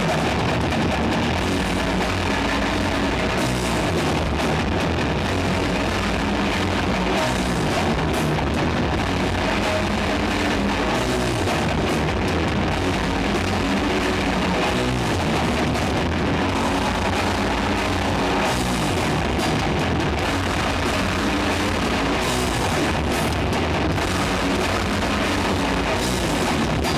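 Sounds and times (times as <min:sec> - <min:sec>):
drum kit: 0:00.0 - 0:26.9
electric guitars: 0:00.0 - 0:26.9.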